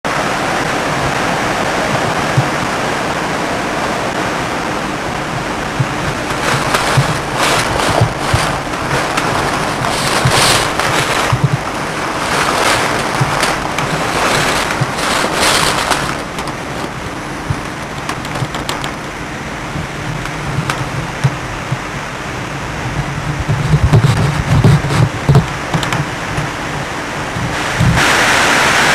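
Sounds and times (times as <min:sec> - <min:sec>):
wind and rain rushing: 0:00.0 - 0:28.9
wind rumbling on microphone: 0:00.1 - 0:28.9.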